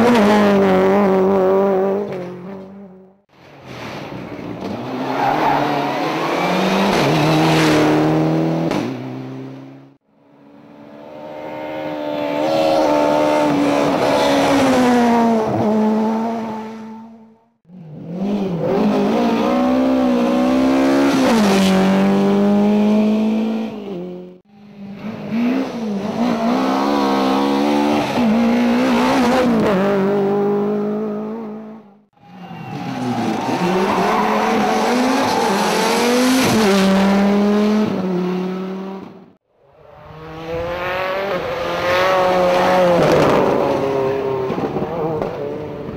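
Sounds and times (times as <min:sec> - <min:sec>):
rally car engines revving: 0:04.3 - 0:45.9.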